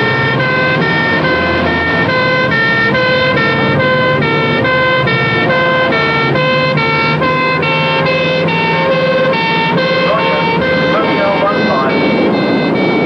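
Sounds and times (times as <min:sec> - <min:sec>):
two-tone sirens: 0:00.0 - 0:13.0
vehicle engines running: 0:00.0 - 0:13.0.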